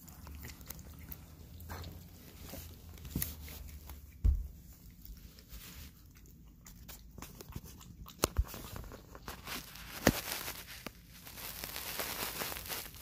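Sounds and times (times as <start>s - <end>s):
cat licking and chewing: 0.0s - 13.0s.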